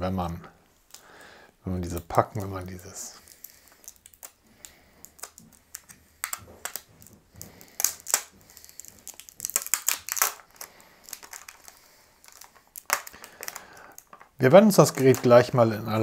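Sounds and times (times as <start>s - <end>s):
plastic film crinkling: 0.7s - 16.0s.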